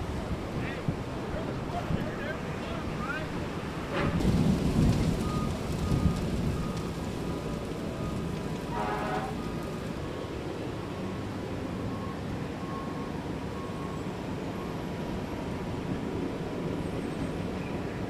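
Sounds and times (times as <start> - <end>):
crackling brush fire: 0.0 - 18.0.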